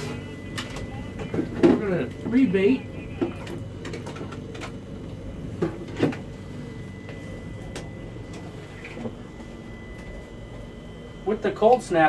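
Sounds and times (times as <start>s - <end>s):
faint high steady tone: 0.0s - 4.2s, 6.3s - 12.0s
steady low hum: 0.0s - 12.0s.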